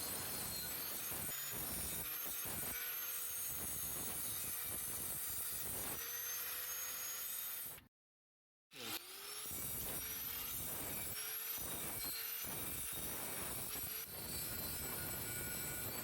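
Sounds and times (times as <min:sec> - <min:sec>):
electric sander on metal pipe: 0:00.0 - 0:07.8, 0:08.8 - 0:16.0.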